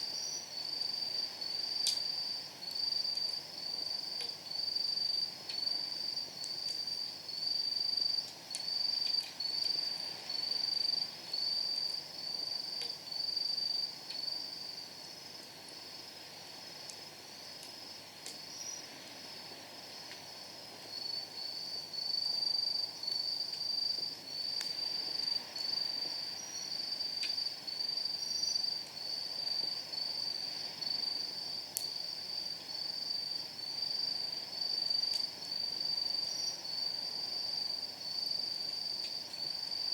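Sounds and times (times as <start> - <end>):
wood fire crackling: 0.0 - 37.3
faint hiss: 0.0 - 39.9
insect chirping trill: 0.0 - 39.9.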